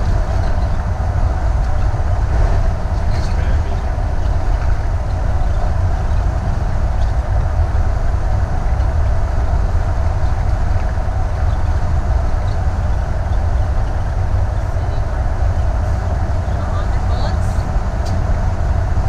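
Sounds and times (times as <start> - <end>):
motorhome engine drone: 0.0 - 19.0
tyre and wind noise: 0.0 - 19.0.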